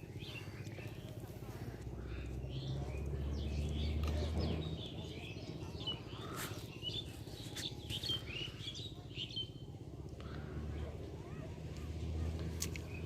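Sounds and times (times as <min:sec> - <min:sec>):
low steady rumble: 0:00.0 - 0:13.0
small birds chirping: 0:00.0 - 0:13.0.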